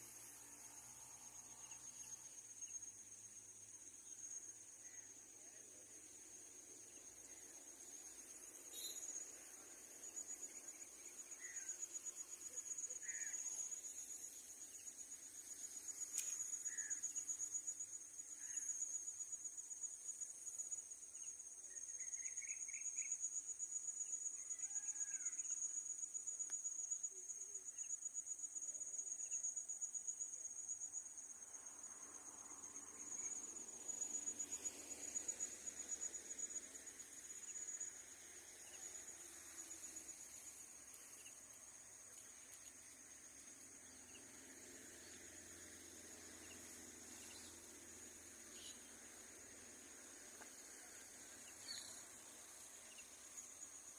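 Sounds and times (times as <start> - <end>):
insect chorus trilling: 0.0 - 53.9.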